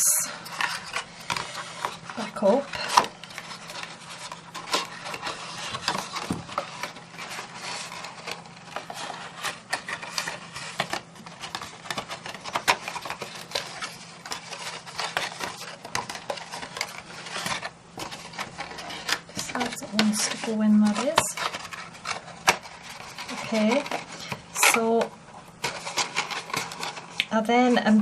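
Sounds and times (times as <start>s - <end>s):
card rustling and scraping: 0.1s - 28.0s.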